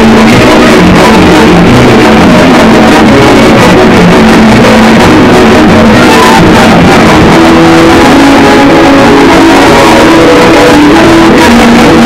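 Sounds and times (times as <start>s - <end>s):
distorted guitar theme music: 0.0s - 12.0s.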